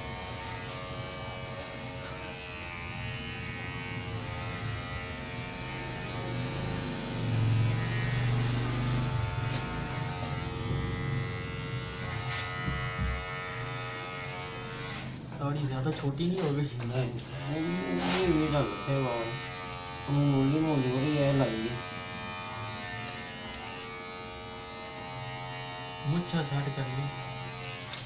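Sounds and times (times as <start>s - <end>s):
electric beard trimmer buzzing: 0.0s - 15.4s, 16.4s - 28.0s.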